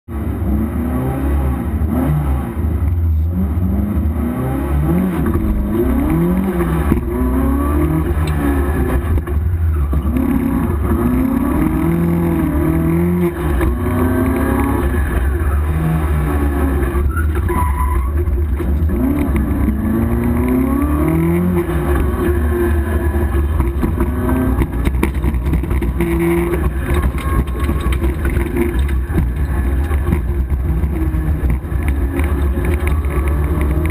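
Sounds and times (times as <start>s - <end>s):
rally car engine revving: 0.1s - 33.9s.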